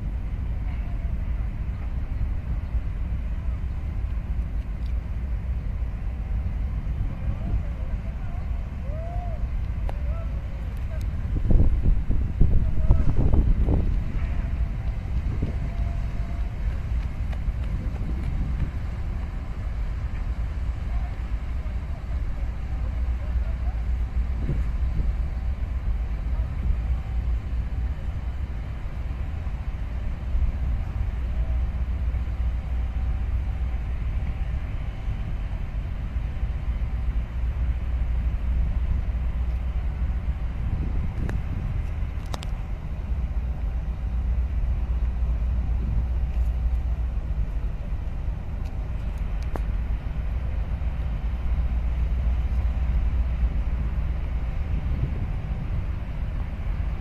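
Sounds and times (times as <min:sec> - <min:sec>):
ship engine rumble: 0:00.0 - 0:57.0.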